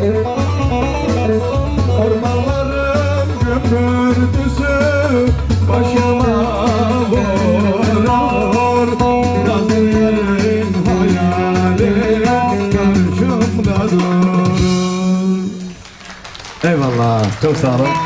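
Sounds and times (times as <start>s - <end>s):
man singing into a microphone: 0.0s - 15.8s
instrumental backing with beat: 0.0s - 16.1s.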